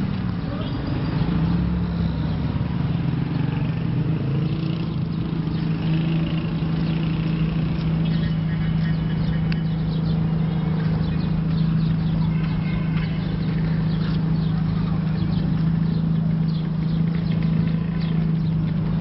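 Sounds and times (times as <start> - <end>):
street traffic engine hum: 0.0 - 19.0.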